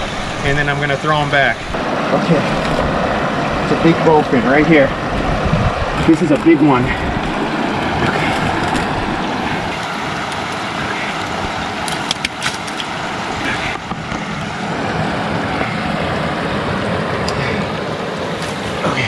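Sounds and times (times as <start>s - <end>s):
water roaring over rapids: 0.0s - 19.0s.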